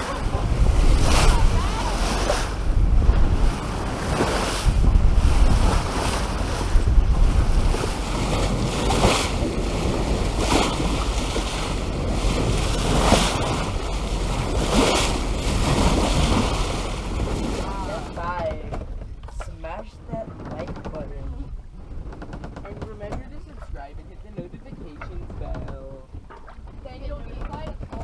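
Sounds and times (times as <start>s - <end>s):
water rushing past hull: 0.0s - 28.0s
waves splashing: 0.0s - 28.0s
wind buffeting microphone: 0.0s - 28.0s.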